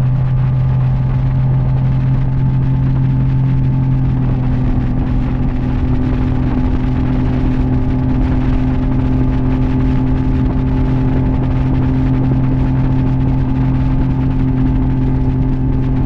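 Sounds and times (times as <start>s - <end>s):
outboard motor humming: 0.0s - 16.0s
water rushing from wake: 0.0s - 16.0s.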